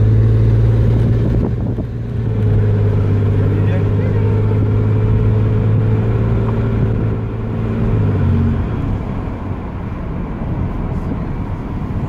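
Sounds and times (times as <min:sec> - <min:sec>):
car engine droning: 0:00.0 - 0:12.0
road rumble: 0:00.0 - 0:12.0.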